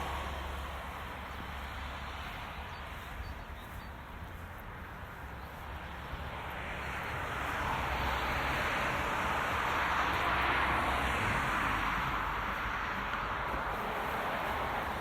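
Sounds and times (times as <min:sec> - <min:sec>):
car driving low rumble: 0:00.0 - 0:15.0
road and tyre hiss: 0:00.0 - 0:15.0.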